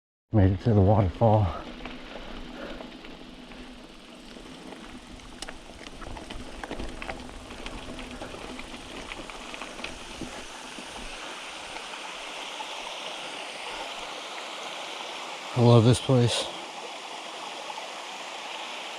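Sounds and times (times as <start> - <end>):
small waterfall splashing: 1.3 - 18.9.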